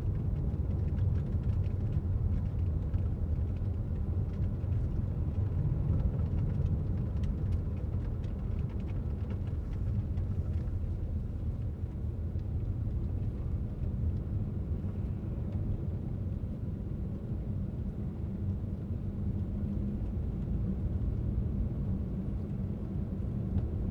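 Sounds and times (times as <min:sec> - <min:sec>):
car driving on road: 0:00.0 - 0:23.9.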